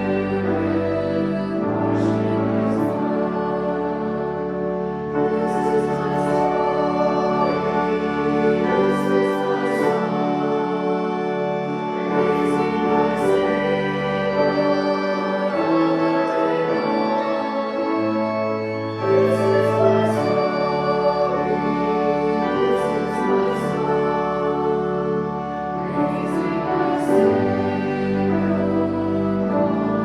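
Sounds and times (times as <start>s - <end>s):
church organ chords: 0.0s - 30.0s
congregation singing: 0.0s - 30.0s.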